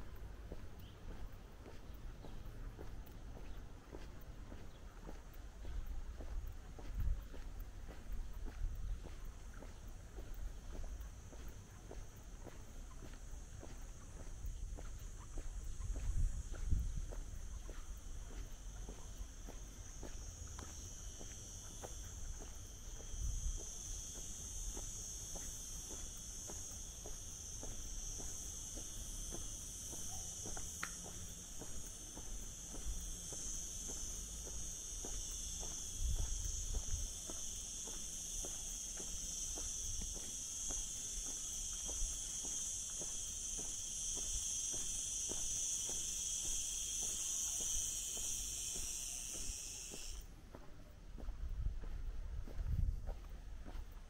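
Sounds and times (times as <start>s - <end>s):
high-pitched insect chorus: 0.0s - 50.3s
soft footsteps: 0.0s - 54.0s.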